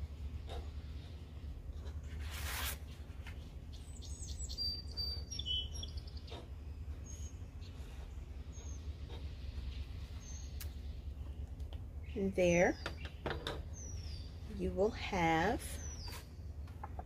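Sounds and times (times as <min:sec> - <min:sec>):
steady low hum: 0:00.0 - 0:17.0
small birds chirping: 0:03.2 - 0:17.0.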